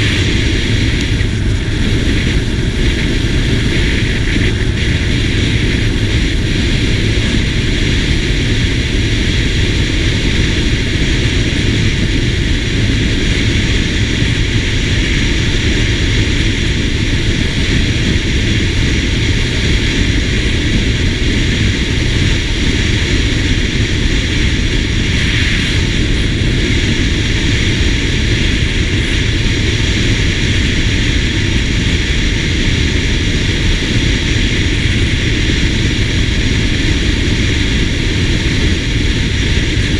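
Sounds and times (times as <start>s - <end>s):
scooter wind and road noise: 0.0s - 39.9s
wind buffeting microphone: 0.0s - 39.9s.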